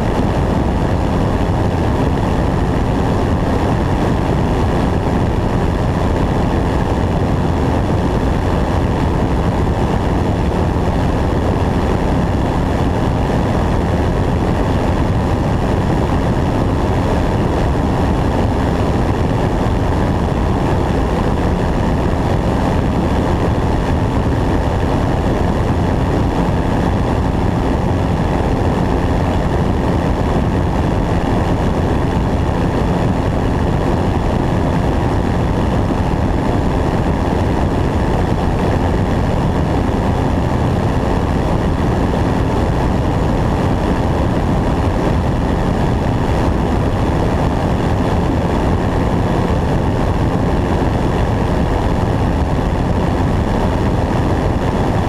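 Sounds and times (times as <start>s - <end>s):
propeller airplane engine in flight: 0.0s - 55.0s
wind rushing over camera: 0.0s - 55.0s.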